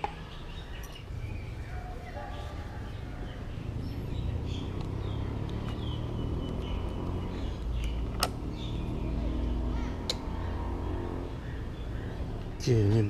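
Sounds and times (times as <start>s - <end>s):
birds chirping: 0.0s - 13.0s
distant road traffic rumble: 0.0s - 13.0s.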